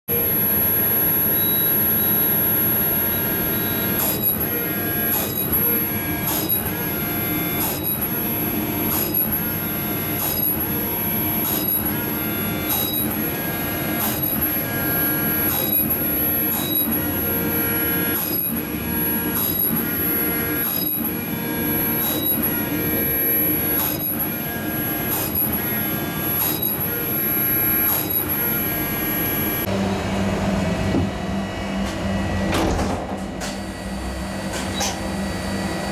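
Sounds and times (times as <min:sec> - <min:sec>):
high electronic whine: 0:00.1 - 0:32.6
steady motor hum: 0:00.1 - 0:35.9.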